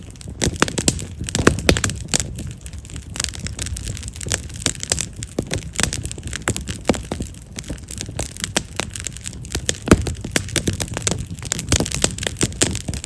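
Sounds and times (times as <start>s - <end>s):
low rumble of flame: 0.0s - 13.0s
wood fire crackling and popping: 0.0s - 13.0s.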